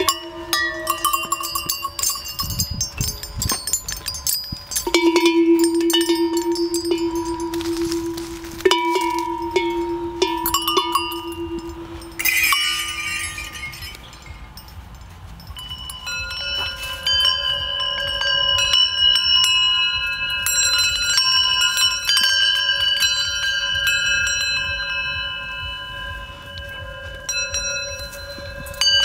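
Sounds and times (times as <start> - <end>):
high chimes ringing: 0.0 - 29.0
low bell ringing: 0.0 - 29.0
metallic jangle: 0.0 - 29.0.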